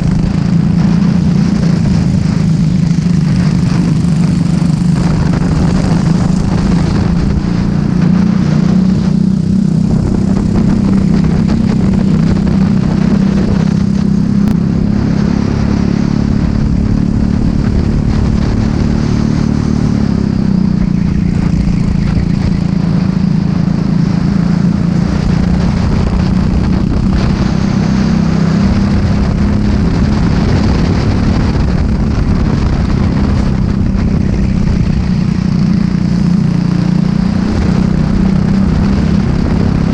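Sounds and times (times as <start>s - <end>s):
kart engine running hard: 0.0s - 39.9s
wind and road noise: 0.0s - 39.9s.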